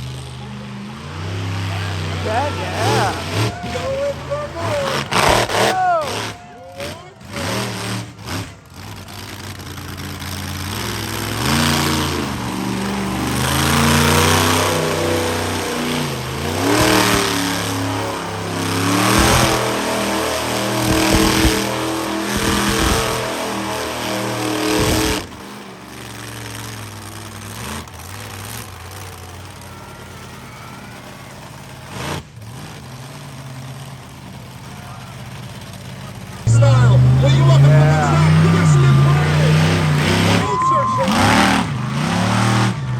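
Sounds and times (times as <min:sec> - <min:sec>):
monster truck engine revving: 0:00.0 - 0:42.9.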